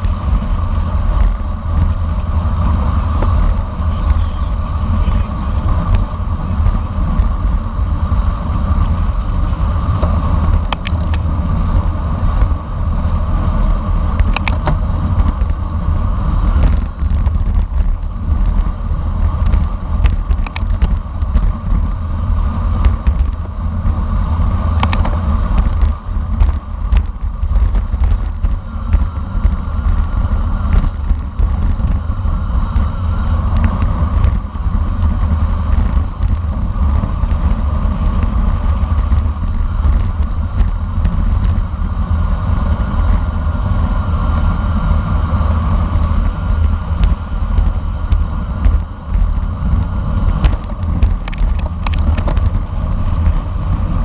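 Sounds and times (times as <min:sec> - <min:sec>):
bicycle tyre and road noise: 0:00.0 - 0:54.0
wind rumble: 0:00.0 - 0:54.0.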